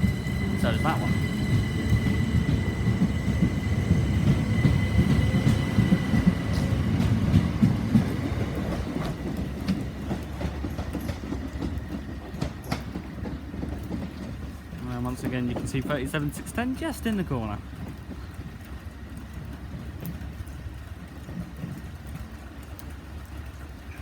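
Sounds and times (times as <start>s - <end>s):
train rumble and wheel clatter: 0.0s - 24.0s.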